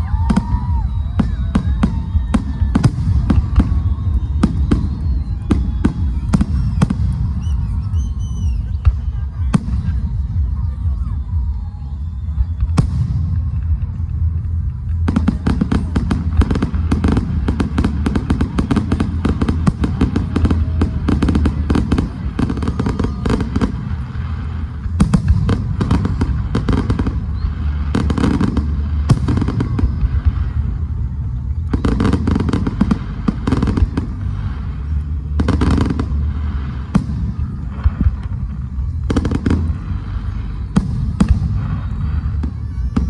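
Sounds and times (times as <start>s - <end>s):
fireworks crackling pops: 0.0s - 43.0s
low rumble: 0.0s - 43.0s.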